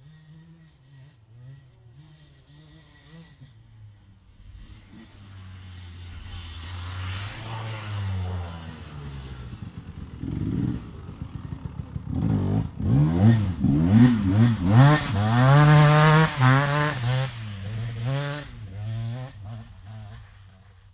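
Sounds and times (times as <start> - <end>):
dirt bike engine revving: 0.0 - 20.4.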